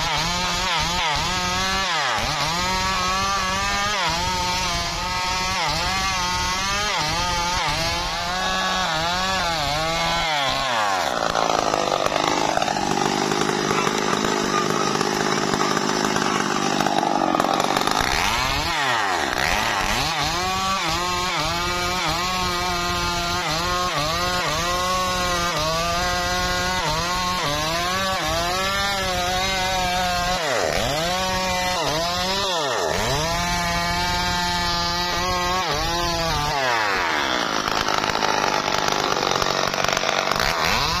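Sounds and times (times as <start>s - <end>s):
chainsaw cutting through tree trunk: 0.0s - 41.0s.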